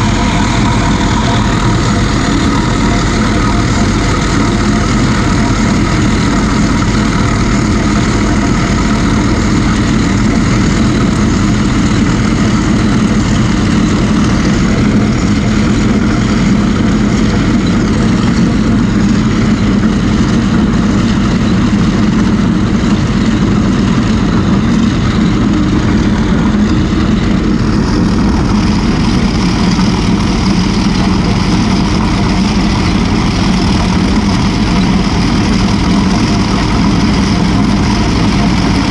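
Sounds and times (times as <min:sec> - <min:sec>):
diesel engine running under load: 0:00.0 - 0:38.9
trencher cutting soil: 0:00.0 - 0:38.9.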